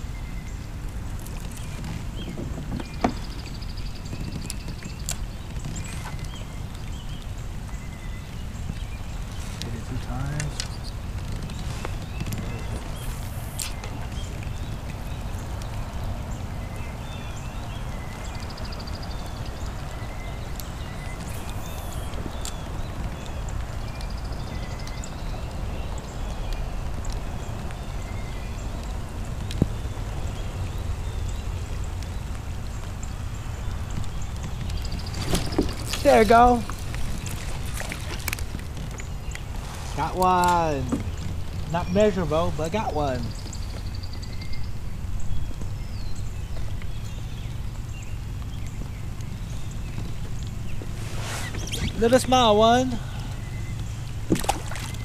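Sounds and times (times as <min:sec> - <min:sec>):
small birds chirping: 0:00.0 - 0:55.0
wind and water rushing: 0:00.0 - 0:55.0.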